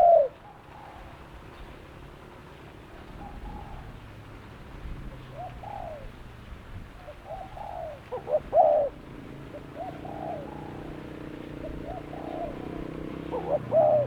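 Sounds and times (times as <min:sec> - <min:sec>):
dove cooing: 0:00.0 - 0:01.7, 0:03.0 - 0:04.2, 0:05.2 - 0:14.0.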